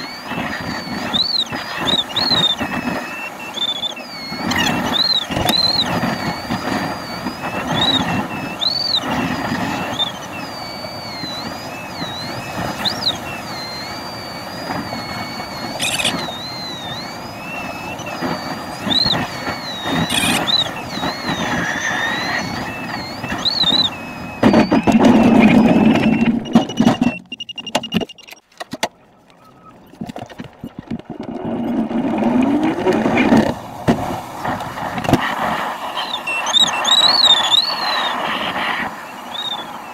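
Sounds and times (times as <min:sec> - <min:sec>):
variometer tone wavering: 0:00.0 - 0:39.9.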